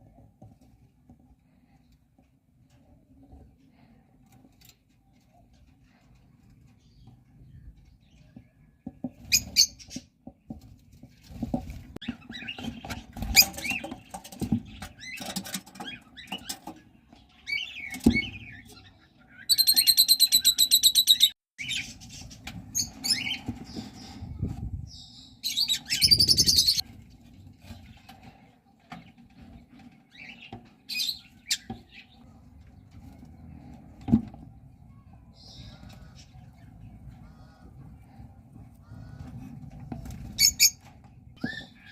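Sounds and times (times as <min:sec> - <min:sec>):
birds chirping and squeaking: 0:02.8 - 0:41.9.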